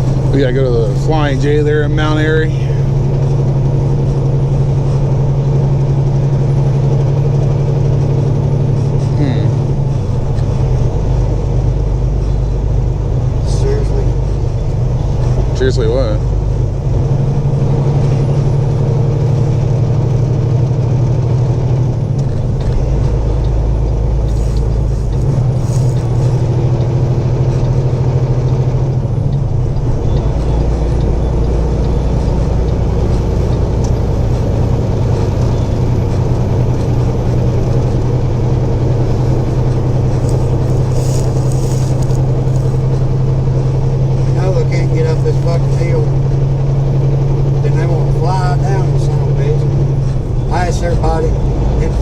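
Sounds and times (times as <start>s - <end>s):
deep rumble: 0.0s - 52.0s
diesel engine drone: 0.0s - 52.0s
road noise: 0.0s - 52.0s.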